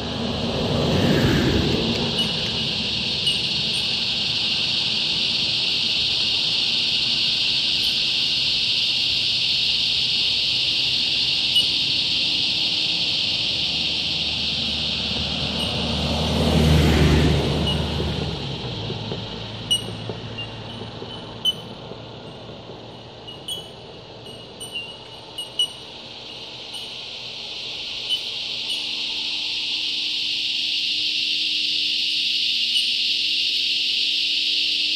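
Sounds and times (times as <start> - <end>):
vehicle passing on road: 0.0 - 32.7
cicadas droning: 0.0 - 34.9.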